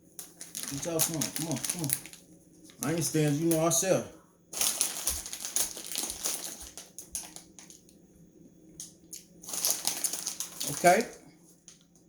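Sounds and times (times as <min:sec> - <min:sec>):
plastic packaging crinkling: 0:00.0 - 0:03.9, 0:04.5 - 0:08.0, 0:08.8 - 0:12.0.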